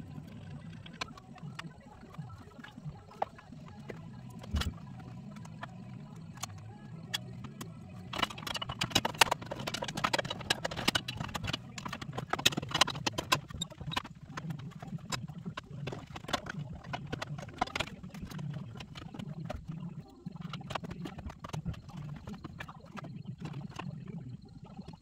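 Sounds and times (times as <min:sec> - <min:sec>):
low steady hum: 0:00.0 - 0:25.0
clicking and rattling of dash parts: 0:00.7 - 0:19.8, 0:20.4 - 0:23.9.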